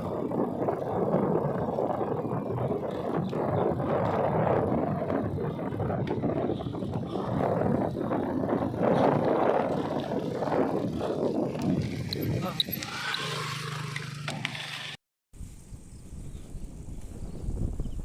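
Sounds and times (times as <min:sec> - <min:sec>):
wind buffeting microphone: 0:00.0 - 0:14.2, 0:15.4 - 0:18.0.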